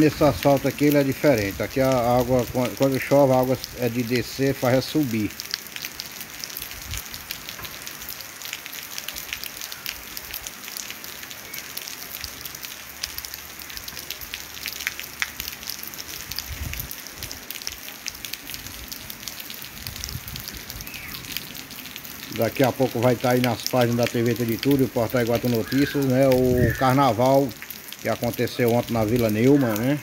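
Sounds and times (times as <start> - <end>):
rain pattering on wet street: 0.0 - 30.0.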